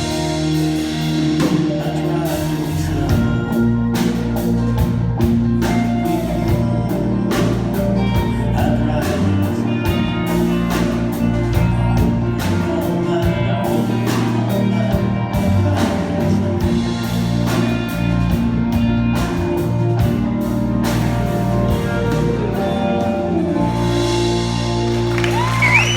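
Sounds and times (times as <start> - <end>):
country band playing: 0.0 - 25.9
drum kit beat: 0.0 - 25.9.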